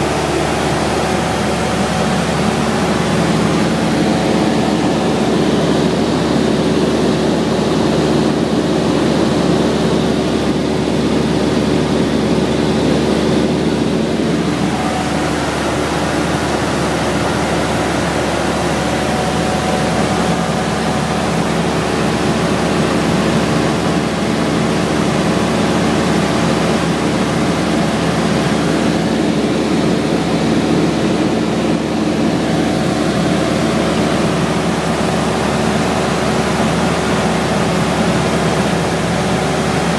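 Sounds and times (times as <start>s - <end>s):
propeller plane engine: 0.0s - 39.9s.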